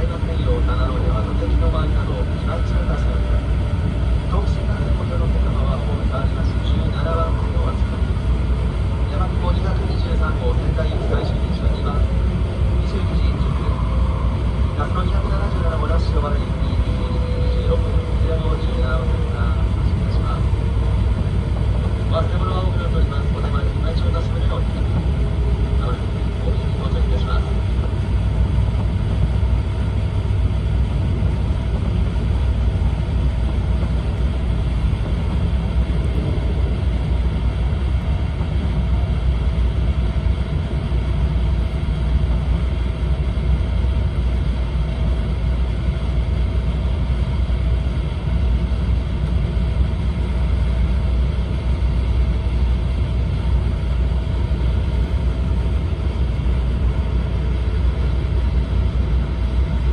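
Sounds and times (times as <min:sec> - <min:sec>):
faint constant hum: 0:00.0 - 0:59.9
train cabin rumble: 0:00.0 - 0:59.9.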